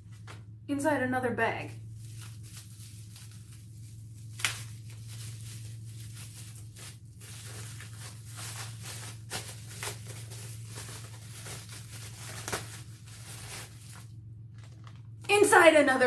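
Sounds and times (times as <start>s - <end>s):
steady low hum: 0.0s - 16.0s
packaging being torn and crumpled: 1.8s - 15.3s.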